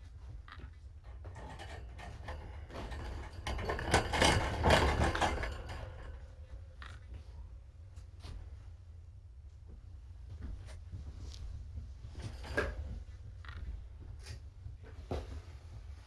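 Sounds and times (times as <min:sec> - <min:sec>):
knocks and clatter of handled objects: 0:00.0 - 0:08.7, 0:09.7 - 0:16.0
rustling: 0:00.0 - 0:16.0.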